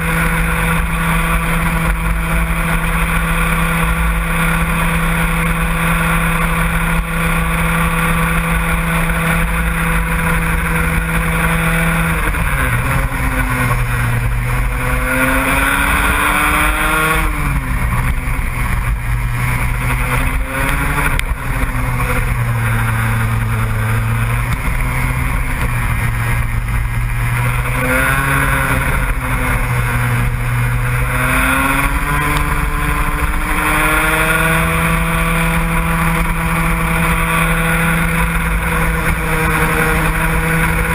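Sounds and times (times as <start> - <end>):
racing engine running hard: 0.0 - 40.9.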